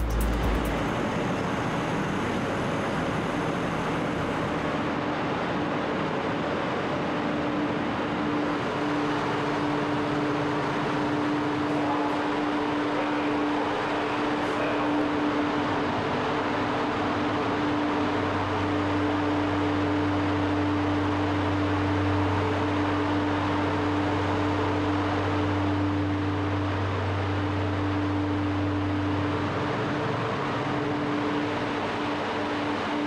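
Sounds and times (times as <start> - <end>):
constant machinery hum: 0.0 - 33.0
deep engine drone: 0.0 - 33.0.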